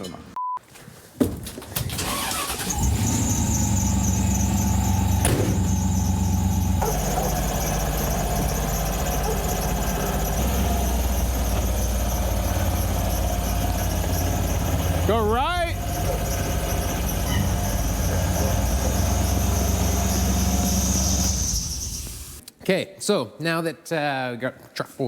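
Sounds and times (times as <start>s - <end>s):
truck engine running: 1.9s - 22.4s
high-pitched squeal: 2.1s - 22.4s.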